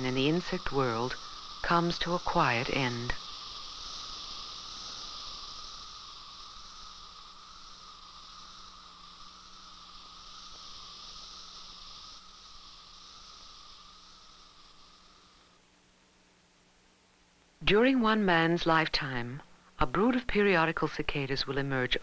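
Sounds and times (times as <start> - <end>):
cicadas droning buzz: 0.0 - 22.0.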